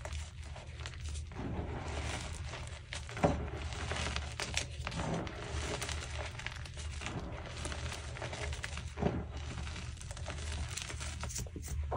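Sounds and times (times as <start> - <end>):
chalk crunching: 0.0 - 11.9.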